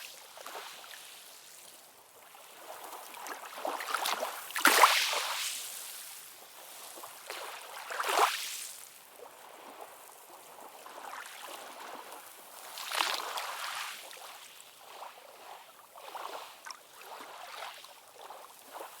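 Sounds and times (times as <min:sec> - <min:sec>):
waves lapping on shore: 0:00.0 - 0:19.0.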